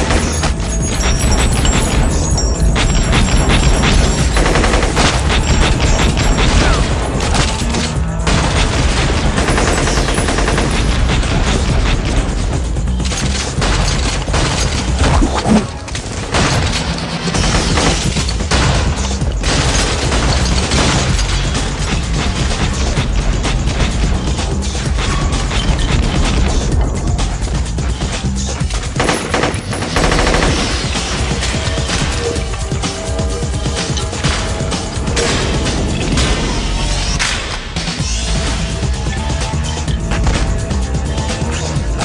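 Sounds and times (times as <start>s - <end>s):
rapid gunfire: 0.0s - 38.2s
driving soundtrack music: 0.0s - 42.0s.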